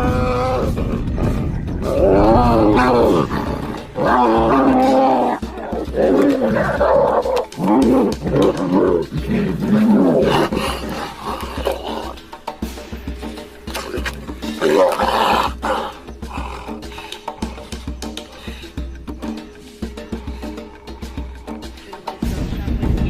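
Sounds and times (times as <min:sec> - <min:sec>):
wild animals roaring and snarling: 0:00.0 - 0:12.4, 0:13.7 - 0:18.1, 0:20.1 - 0:21.8.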